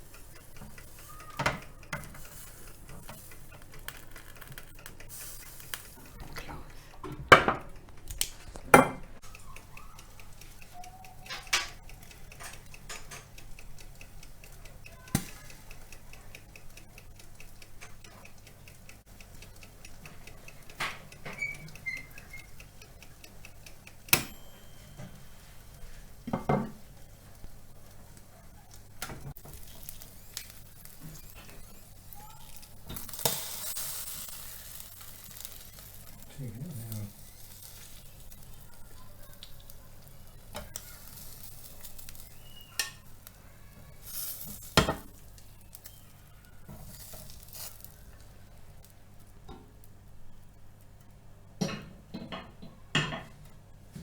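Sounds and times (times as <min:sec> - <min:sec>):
chicken sizzling on grill: 0:00.0 - 0:06.2, 0:09.2 - 0:52.7.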